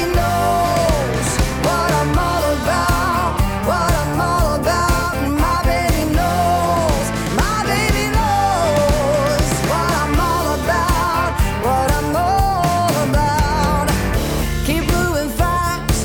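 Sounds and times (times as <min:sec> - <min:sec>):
music with drum beat: 0:00.0 - 0:16.0.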